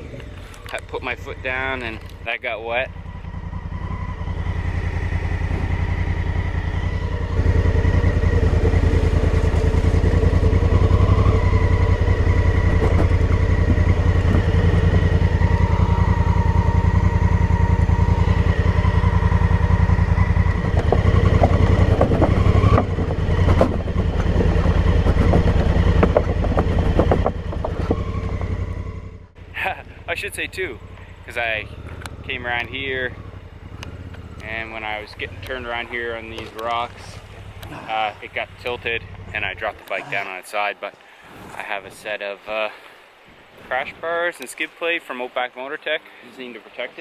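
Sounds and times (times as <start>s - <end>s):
motorcycle engine running: 0.0s - 40.3s.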